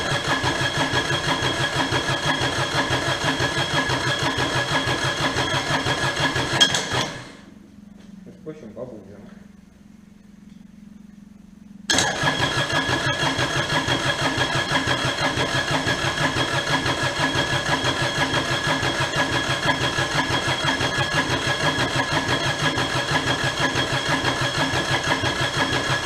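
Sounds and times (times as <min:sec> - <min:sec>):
diesel engine chugging: 0:00.0 - 0:07.7, 0:11.9 - 0:26.0.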